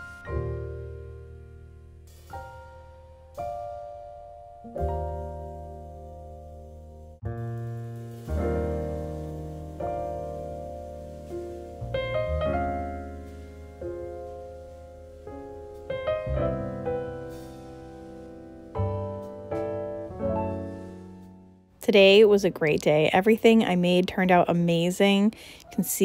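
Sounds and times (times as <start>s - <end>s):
soft piano chords: 0.0s - 24.5s.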